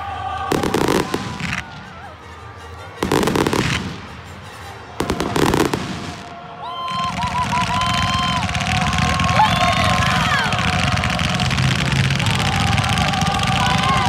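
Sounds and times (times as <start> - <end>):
fireworks bursting with crackle: 0.4 - 14.0.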